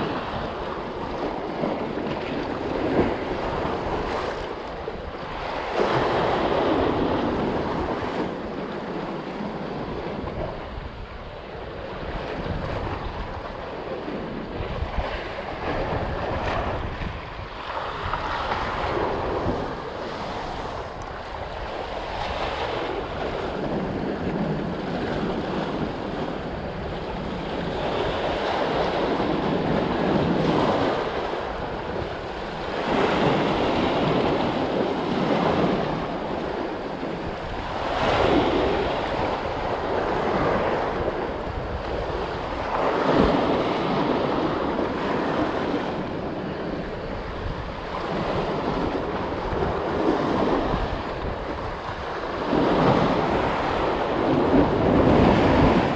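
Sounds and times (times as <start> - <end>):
sea waves washing against rocks: 0.0 - 55.9
wind buffeting microphone: 0.0 - 55.9.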